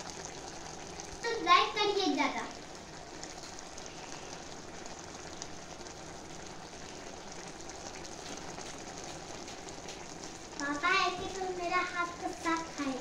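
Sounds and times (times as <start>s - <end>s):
faint crackling: 0.0s - 13.0s
greens sizzling in a pan: 0.0s - 13.0s.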